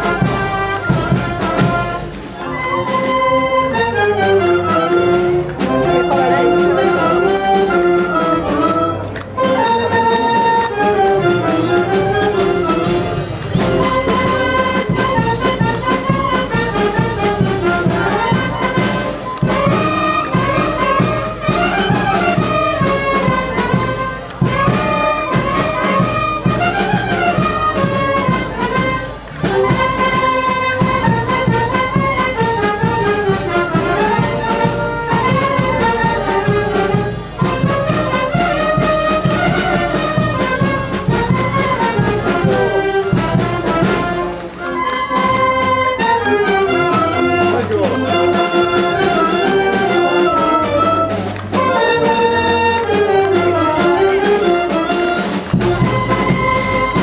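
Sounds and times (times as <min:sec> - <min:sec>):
brass band playing dance tune: 0:00.0 - 0:57.0.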